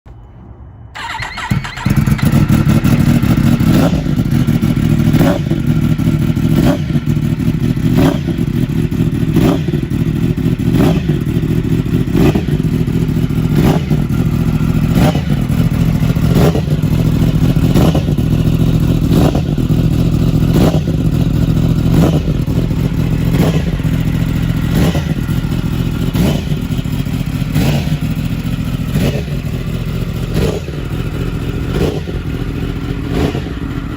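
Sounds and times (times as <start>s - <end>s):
motorcycle engine running loud: 1.0s - 33.9s.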